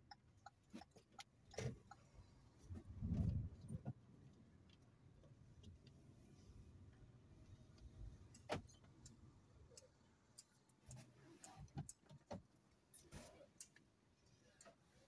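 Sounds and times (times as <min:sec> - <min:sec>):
faint clicks and ticks: 0:00.0 - 0:06.0, 0:07.6 - 0:15.0.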